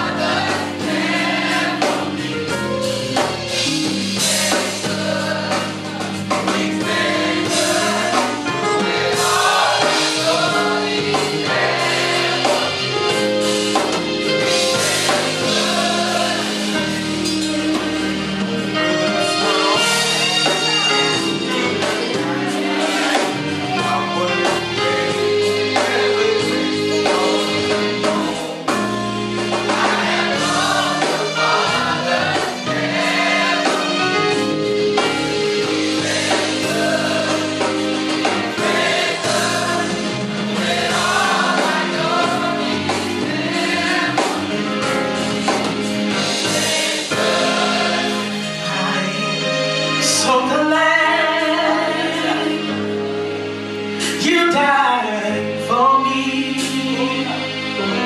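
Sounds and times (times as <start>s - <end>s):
gospel choir singing: 0.0s - 58.0s
musical accompaniment: 0.0s - 58.0s.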